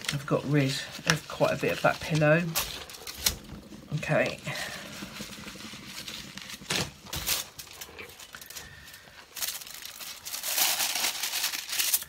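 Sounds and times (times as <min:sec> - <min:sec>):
foil crinkling: 0:00.0 - 0:12.0.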